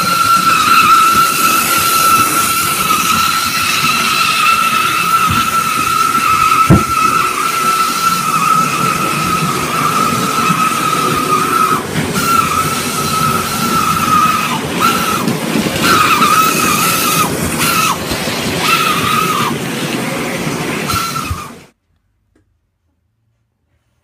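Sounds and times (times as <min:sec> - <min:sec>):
high squeal: 0:00.0 - 0:21.6
model train rattling rumble: 0:00.0 - 0:21.7.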